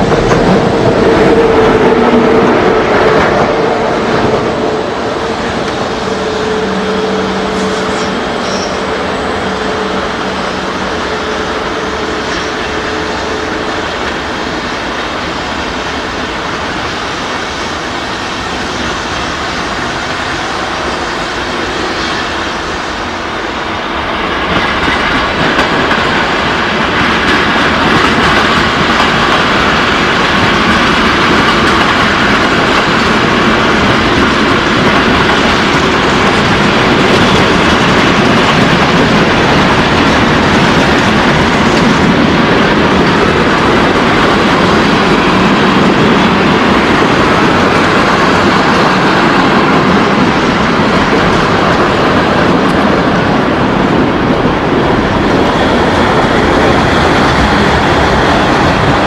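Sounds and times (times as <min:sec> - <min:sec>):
train wheels clattering over rail joints: 0:00.0 - 0:22.6, 0:24.1 - 0:59.0.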